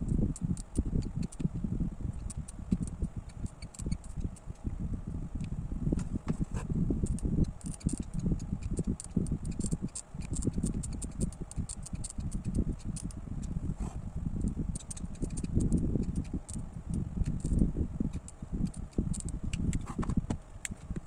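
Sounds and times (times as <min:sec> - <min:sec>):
small irregular clicks: 0:00.0 - 0:04.8, 0:07.0 - 0:13.7, 0:14.4 - 0:21.0.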